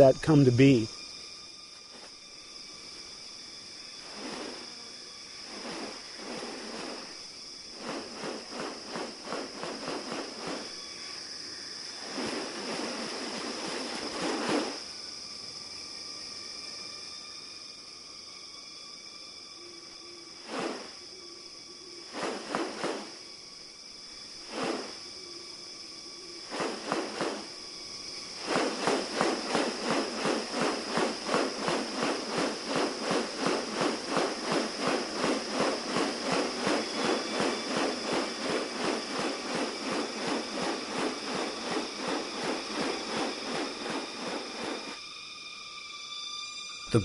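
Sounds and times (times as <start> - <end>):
insect chorus drone: 0.0 - 47.0
insect rasping pulse: 0.0 - 47.0.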